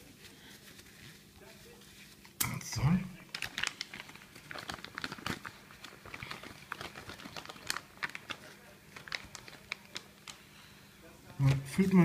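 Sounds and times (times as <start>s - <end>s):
faint crinkling: 0.0s - 11.7s.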